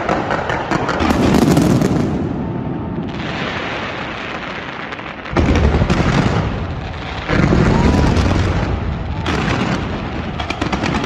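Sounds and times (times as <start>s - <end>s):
firework burst: 0.0s - 11.0s
low firework booms: 0.0s - 11.0s.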